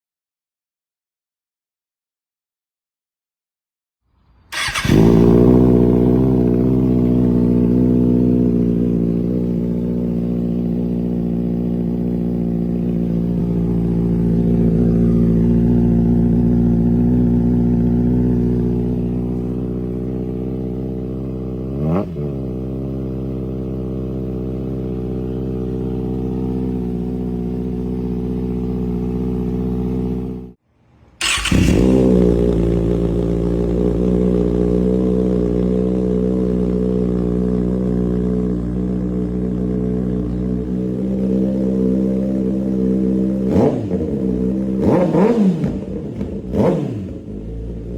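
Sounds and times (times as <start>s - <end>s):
motorcycle engine idling: 4.5s - 30.6s, 31.2s - 47.9s.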